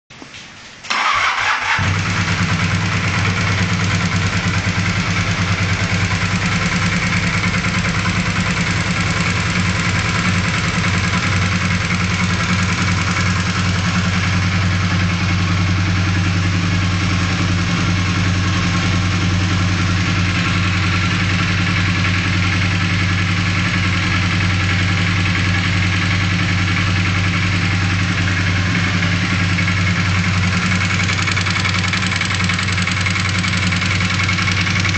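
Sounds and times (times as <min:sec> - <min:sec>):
motorcycle engine starting and idling: 0:00.8 - 0:34.9.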